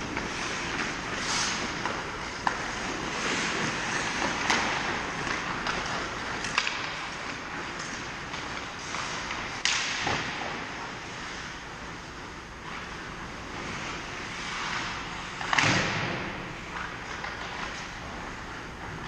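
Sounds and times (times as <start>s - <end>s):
skates on ice: 0.0s - 19.0s.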